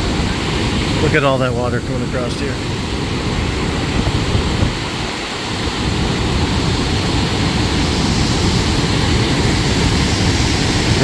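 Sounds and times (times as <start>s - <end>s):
waterfall roaring: 0.0s - 11.0s
wind buffeting microphone: 0.0s - 11.0s.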